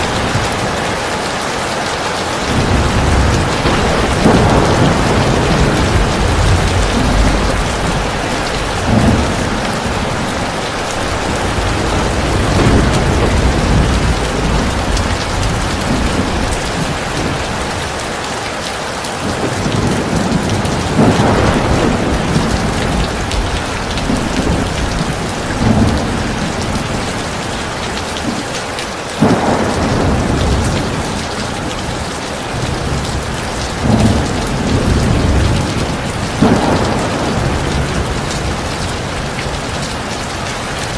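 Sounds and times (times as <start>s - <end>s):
thunder rumbling: 0.0s - 18.2s, 19.2s - 40.9s
heavy rain pouring: 0.0s - 40.9s.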